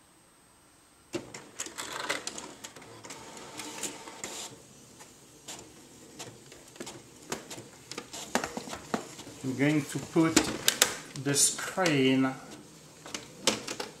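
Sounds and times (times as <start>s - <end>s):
printer clicking and whirring: 1.1s - 14.0s.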